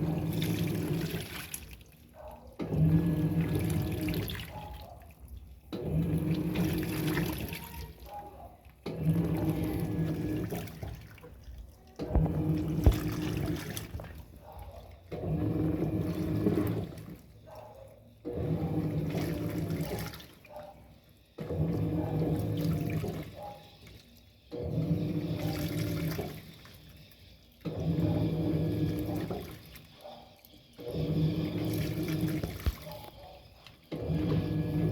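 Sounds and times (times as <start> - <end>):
water sloshing: 0.0 - 24.0, 24.6 - 34.9
washing machine motor hum: 0.0 - 34.9.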